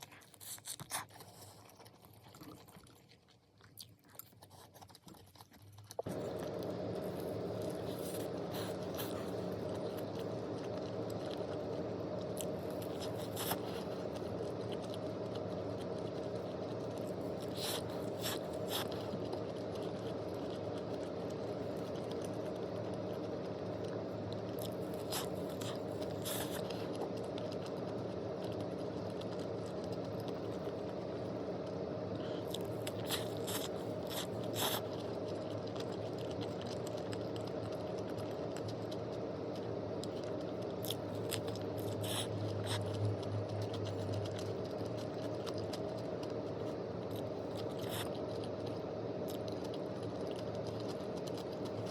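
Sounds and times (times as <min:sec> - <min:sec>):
steady background hum: 0:00.0 - 0:51.9.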